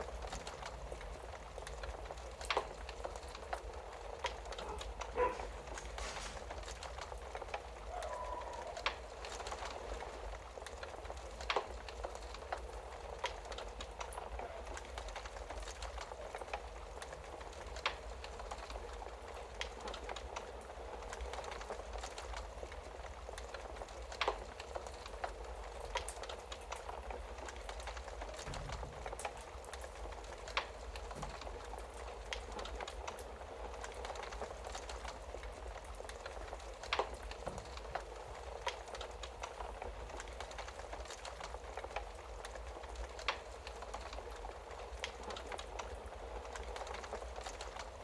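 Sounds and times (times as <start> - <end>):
sharp pops of fire: 0.0 - 20.4, 23.4 - 47.8
wood fire crackling: 0.0 - 48.0.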